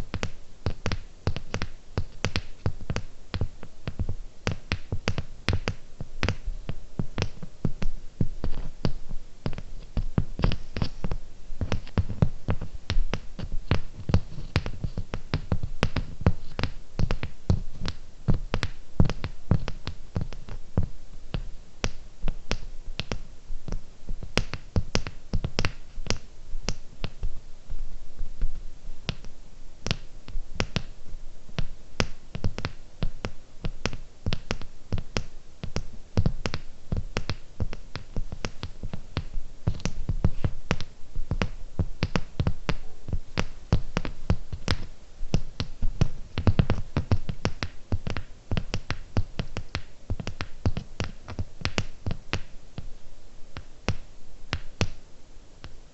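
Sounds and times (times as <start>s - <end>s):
fingernail tapping on gems: 0.1s - 6.5s, 7.1s - 27.2s, 29.1s - 30.9s, 32.0s - 42.8s, 43.4s - 52.5s.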